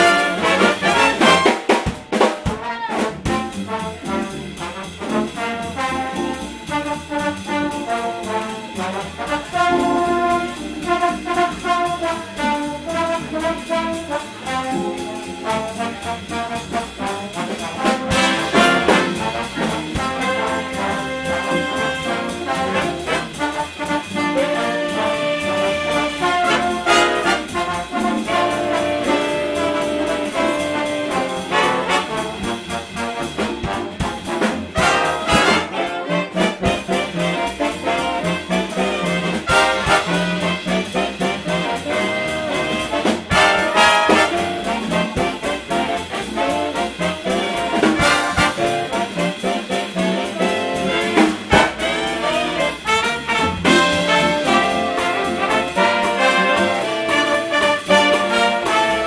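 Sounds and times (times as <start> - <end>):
big band jazz: 0.0 - 59.0
saxophone section: 0.0 - 59.0
trombones and trumpets playing: 0.0 - 59.0.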